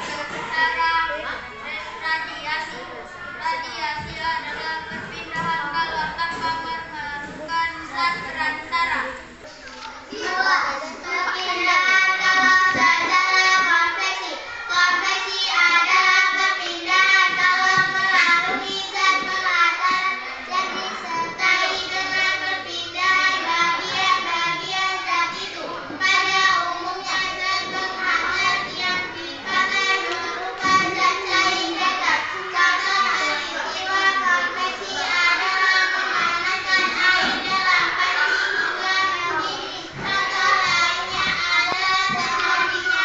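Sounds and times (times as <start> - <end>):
children singing: 0.0 - 43.0.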